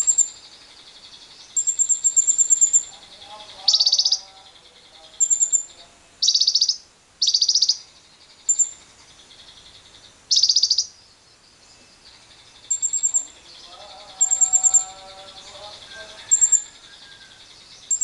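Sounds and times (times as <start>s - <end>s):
lovebird chattering: 0.0s - 11.2s, 12.0s - 18.0s.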